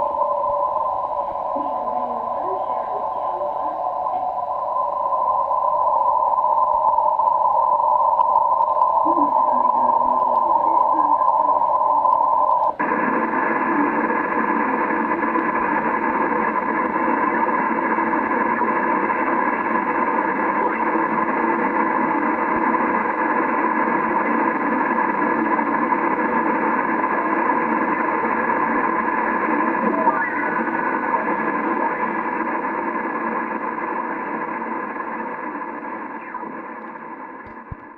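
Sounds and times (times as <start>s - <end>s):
faint steady radio tones: 0.0s - 37.9s
radio static hiss: 0.0s - 37.9s.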